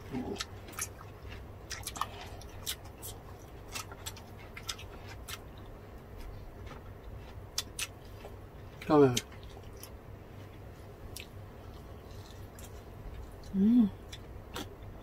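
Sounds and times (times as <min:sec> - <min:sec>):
wet chewing: 0:00.1 - 0:15.0.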